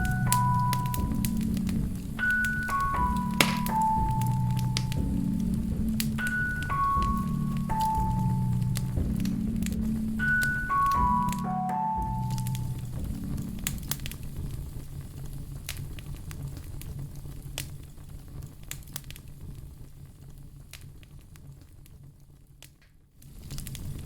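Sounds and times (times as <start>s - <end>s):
low rumble of flame: 0.0s - 11.4s, 12.0s - 24.0s
wood fire crackling and popping: 0.0s - 24.0s.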